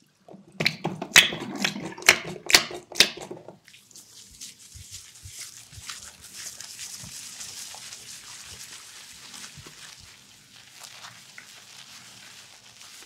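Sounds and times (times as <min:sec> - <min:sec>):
hair lathering squishing: 0:00.2 - 0:13.0.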